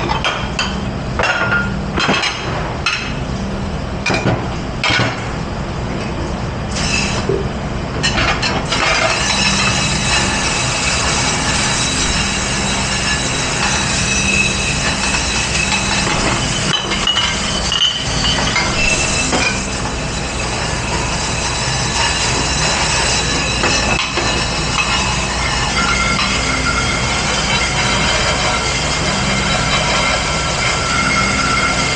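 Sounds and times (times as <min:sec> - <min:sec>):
dishwashing machine running: 0:00.0 - 0:31.9.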